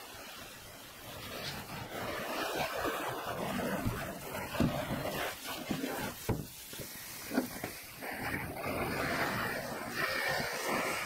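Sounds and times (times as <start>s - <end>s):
hose spraying water on plastic: 0.0s - 11.0s.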